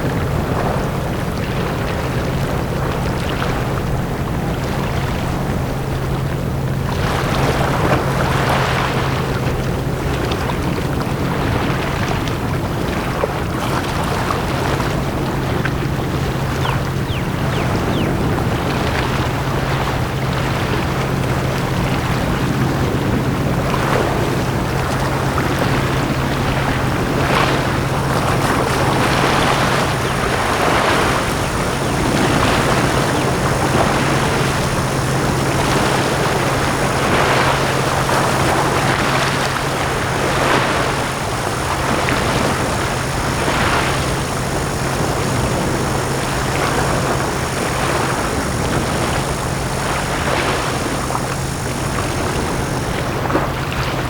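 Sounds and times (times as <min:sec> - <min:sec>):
sea waves washing onto shore: 0:00.0 - 0:54.0
steady low hum: 0:00.0 - 0:54.0.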